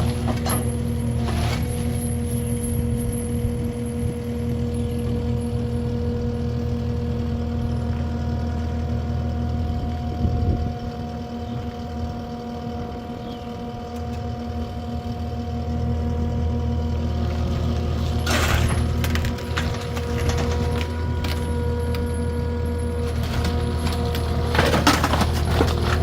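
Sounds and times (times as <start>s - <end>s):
heavy vehicle engine running: 0.0s - 26.0s.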